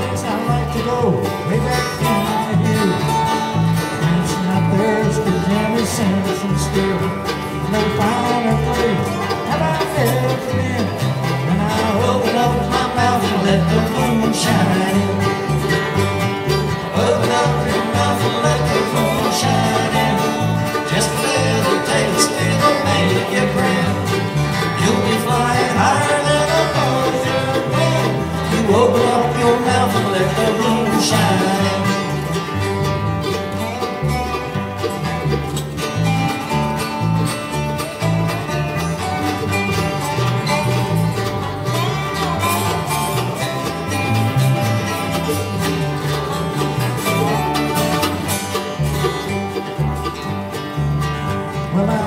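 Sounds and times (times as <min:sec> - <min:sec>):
bluegrass band playing: 0:00.0 - 0:52.0.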